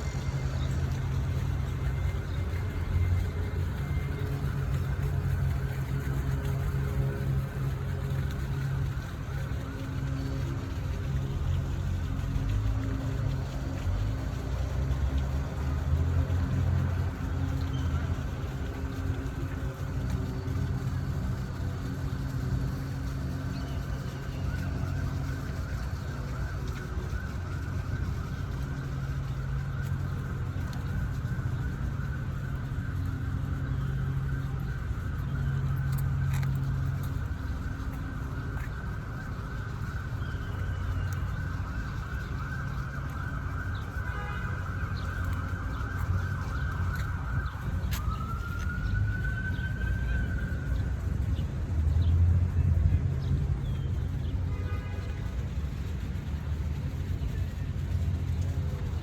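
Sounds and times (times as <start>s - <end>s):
low rumble of city traffic: 0.0s - 59.0s.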